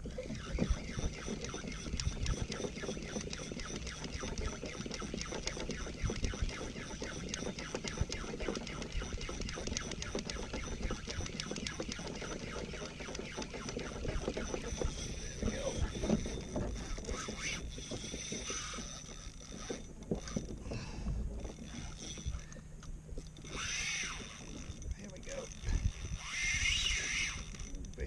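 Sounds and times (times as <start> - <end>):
fishing reel clicking: 0.0 - 28.0.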